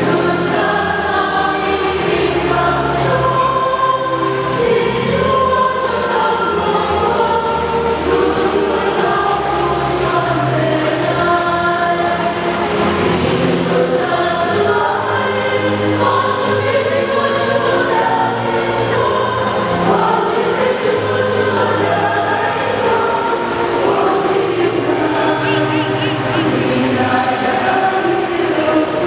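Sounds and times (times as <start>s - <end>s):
choir singing a hymn: 0.0s - 29.0s.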